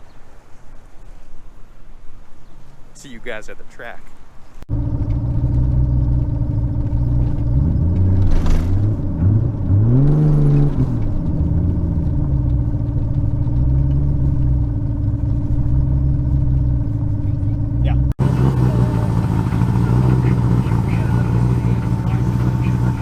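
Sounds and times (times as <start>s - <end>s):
car engine running with steady drone: 4.5s - 23.0s.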